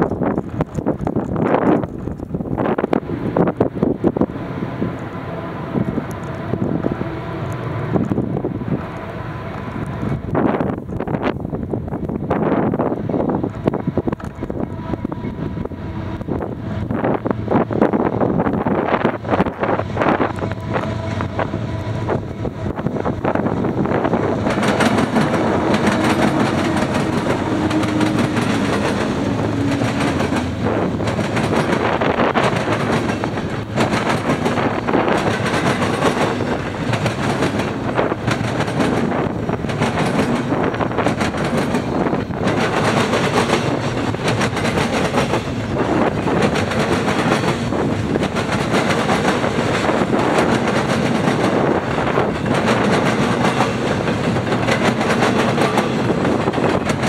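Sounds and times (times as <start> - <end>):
freight train rumbling on rails: 0.0 - 57.0
wheels clickety-clack on rail joints: 0.0 - 57.0.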